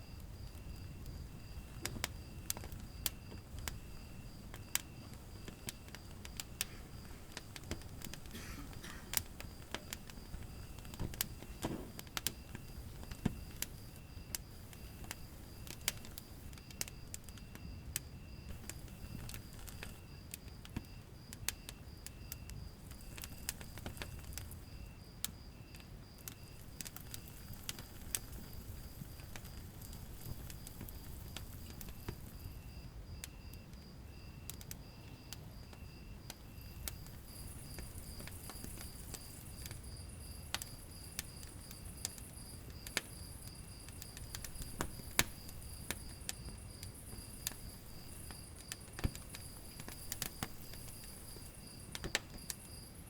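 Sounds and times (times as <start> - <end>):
fire crackling and popping: 0.0 - 53.0
low rumble of flames: 0.0 - 53.0.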